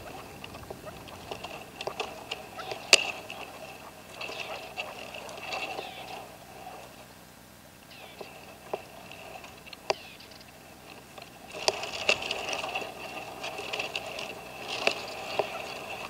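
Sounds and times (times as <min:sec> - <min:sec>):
partridge clucking calls: 0:00.0 - 0:07.1, 0:07.8 - 0:16.0
faint high-pitched whine: 0:00.0 - 0:16.0.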